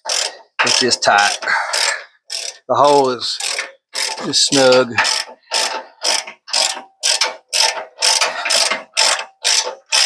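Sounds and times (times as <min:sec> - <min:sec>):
ratchet wrench cranking: 0:00.0 - 0:10.0.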